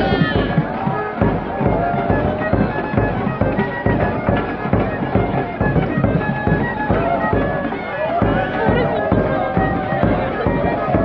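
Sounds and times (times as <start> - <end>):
steady drum beat: 0.0 - 11.0
wind instruments playing melody: 0.0 - 11.0.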